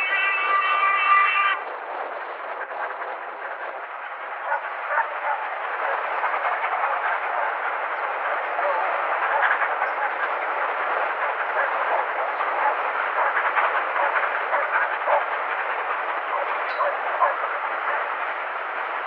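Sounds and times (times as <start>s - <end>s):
coaches clattering on rails: 0.0s - 19.0s
steam locomotive passing: 0.0s - 19.0s.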